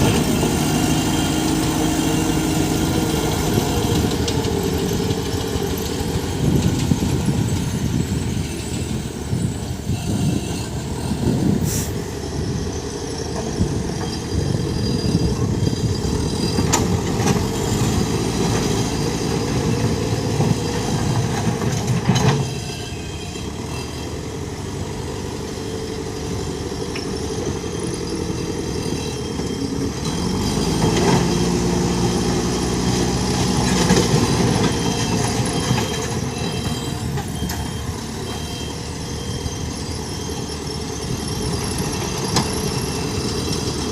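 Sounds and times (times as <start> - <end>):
diesel engine under load: 0.0 - 43.9.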